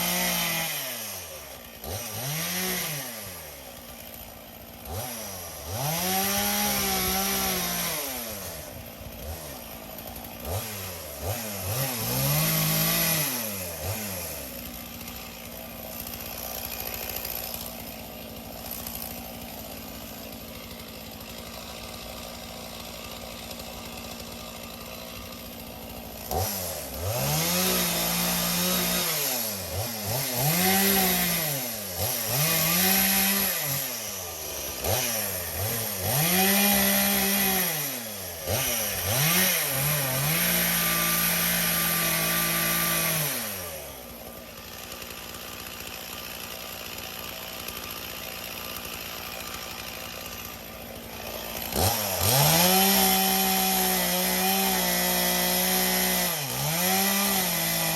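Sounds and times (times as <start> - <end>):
chainsaw idling and revving: 0.0 - 57.9.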